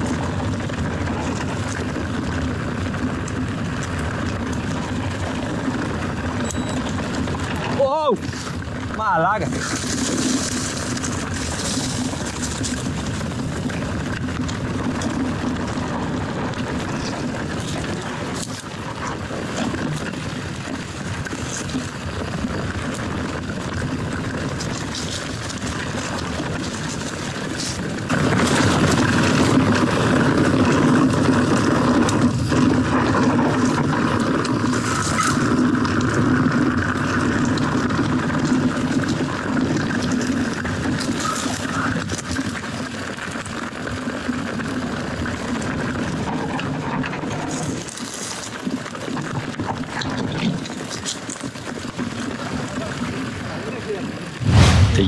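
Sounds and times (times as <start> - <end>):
bike knocks and rattles: 0.0 - 44.3
wind rushing on camera: 0.0 - 53.4, 54.2 - 55.0
tyres rolling over dirt: 0.0 - 55.0.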